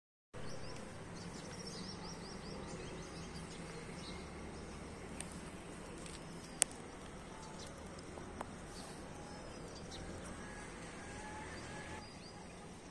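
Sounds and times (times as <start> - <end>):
low background noise: 0.4 - 12.9
small birds chirping: 0.4 - 12.9.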